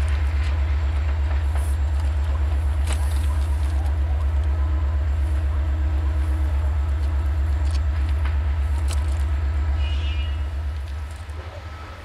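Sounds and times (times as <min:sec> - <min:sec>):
diesel train engine throbbing: 0:00.0 - 0:12.0
faint rail clicks: 0:00.0 - 0:12.0.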